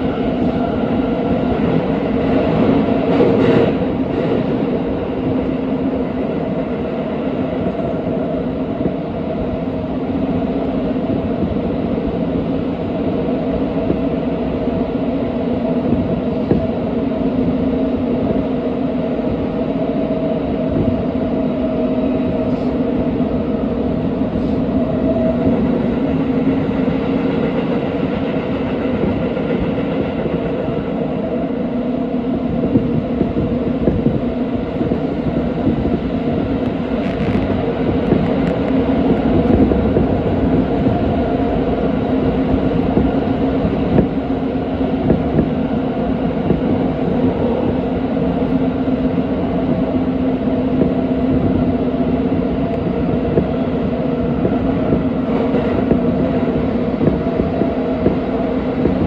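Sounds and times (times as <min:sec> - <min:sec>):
subway wheels rumbling on rails: 0:00.0 - 0:59.0
train hum: 0:00.0 - 0:59.0.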